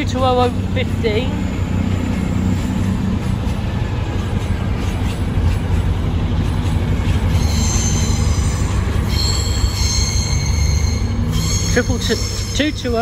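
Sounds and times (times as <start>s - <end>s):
diesel train engine rumble: 0.0s - 13.0s
wheels squealing: 0.0s - 13.0s.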